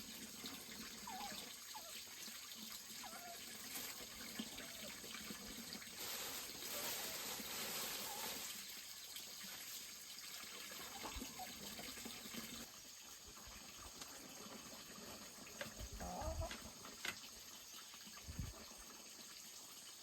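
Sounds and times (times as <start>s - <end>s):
water running and splashing: 0.0s - 20.0s.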